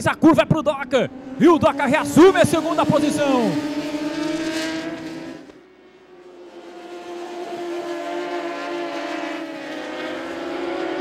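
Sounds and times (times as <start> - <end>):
racing motorcycles at high revs: 0.0 - 11.0.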